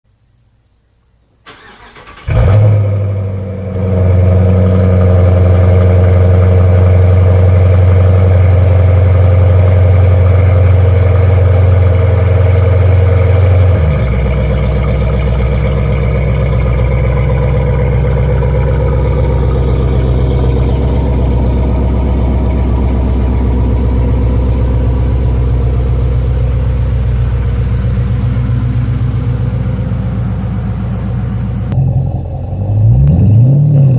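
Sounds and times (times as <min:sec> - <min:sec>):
car engine idling: 0:01.4 - 0:33.1.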